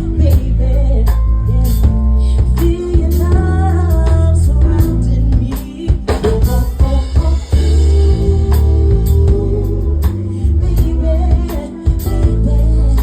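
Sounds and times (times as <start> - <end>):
drum kit beat: 0.0 - 13.0
heavy bass line: 0.0 - 13.0
person singing: 0.0 - 13.0
soul blues band playing: 0.0 - 13.0.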